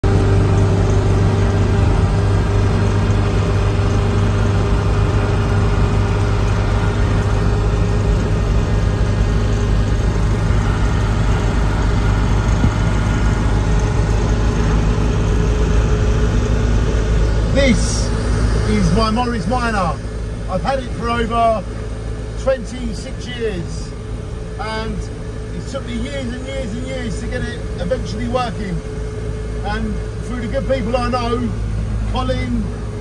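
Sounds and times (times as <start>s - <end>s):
car engine humming: 0.0s - 33.0s
road noise: 0.0s - 33.0s.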